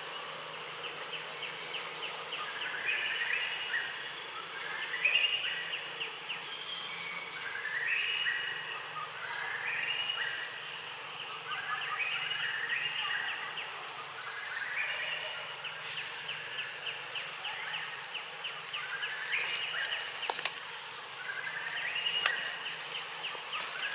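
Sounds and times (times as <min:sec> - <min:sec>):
insect pulsing call: 0:00.0 - 0:23.9
insects droning: 0:00.0 - 0:23.9.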